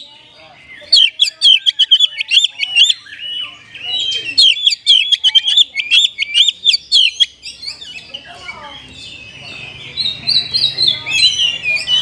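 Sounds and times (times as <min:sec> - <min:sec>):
bird singing sharp chirps: 0:00.0 - 0:12.0.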